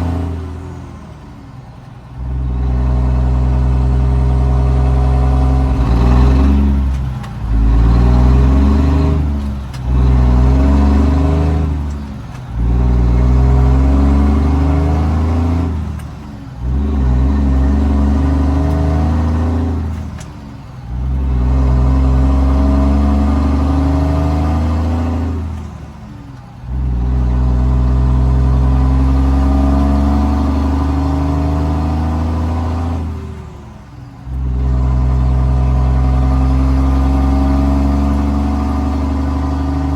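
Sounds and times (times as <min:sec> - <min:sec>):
diesel truck accelerating through gears: 0:00.0 - 0:39.9.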